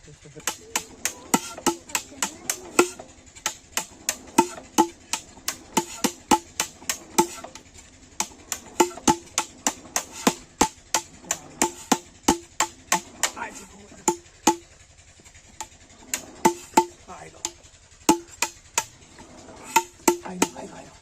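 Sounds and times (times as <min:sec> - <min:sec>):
sharp ringing knocks: 0:00.4 - 0:07.6, 0:08.2 - 0:14.7, 0:15.6 - 0:20.8.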